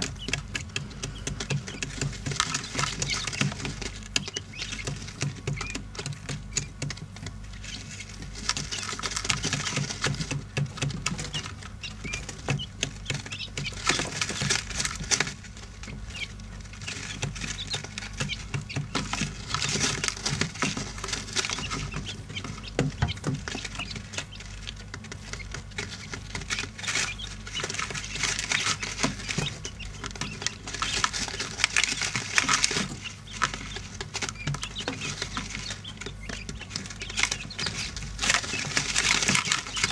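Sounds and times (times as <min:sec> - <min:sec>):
chicks pecking and scratching grit: 0:00.0 - 0:39.9
soft chick peeps: 0:00.0 - 0:39.9
steady low hum: 0:00.0 - 0:39.9.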